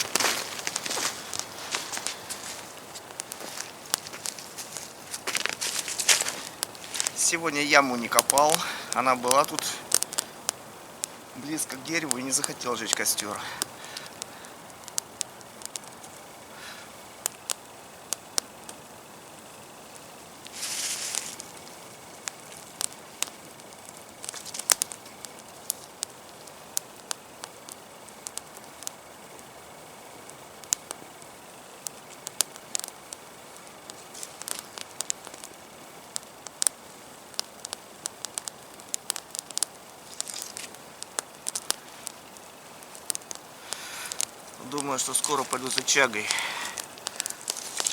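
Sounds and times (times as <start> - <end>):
campfire crackling and popping: 0.0 - 47.9
fire hissing: 0.0 - 47.9.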